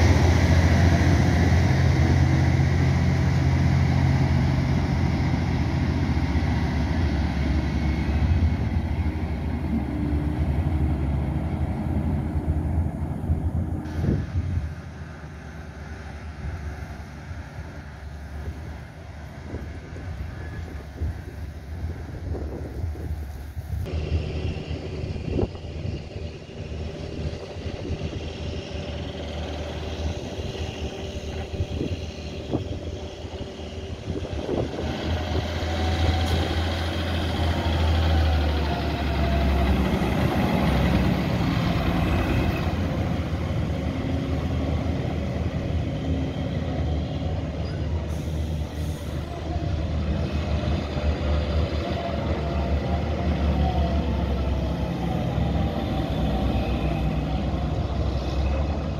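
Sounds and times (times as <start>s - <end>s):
tractor diesel engine passing: 0.0s - 58.9s.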